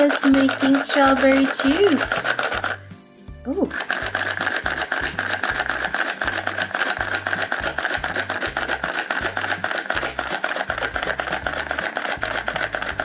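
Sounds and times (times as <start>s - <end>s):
plastic rattle: 0.0s - 2.8s, 3.6s - 13.0s
toy blender motor running: 0.0s - 13.0s.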